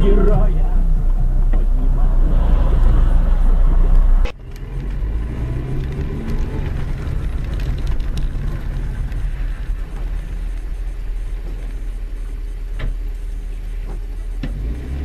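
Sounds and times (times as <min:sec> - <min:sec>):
low hum: 0:00.0 - 0:14.4
car engine and tyre rumble: 0:00.0 - 0:15.0.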